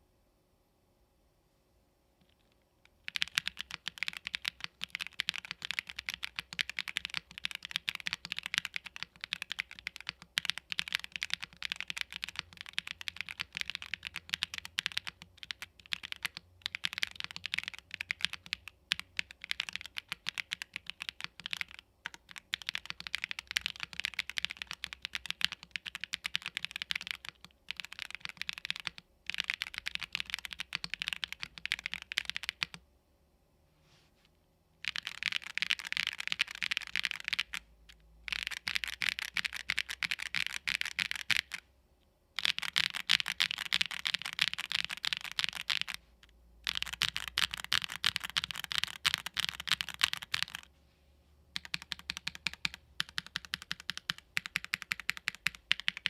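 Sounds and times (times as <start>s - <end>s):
mechanical keyboard typing: 2.2s - 32.8s, 34.8s - 41.6s, 42.4s - 46.0s, 46.6s - 50.7s, 51.6s - 56.0s.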